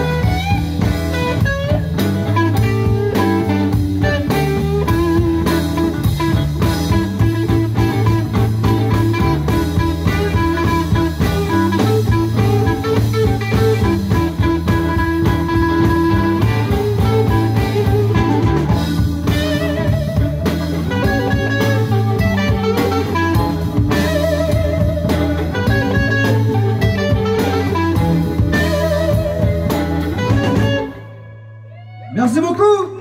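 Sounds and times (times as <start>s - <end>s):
live soul band playing: 0.0s - 33.0s.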